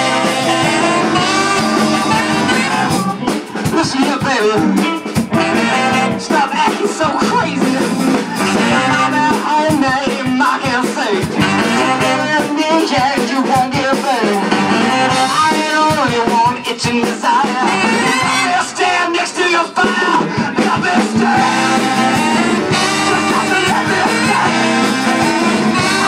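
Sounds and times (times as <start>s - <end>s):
horn section: 0.0s - 16.5s, 17.4s - 26.0s
ska band playing: 0.0s - 26.0s.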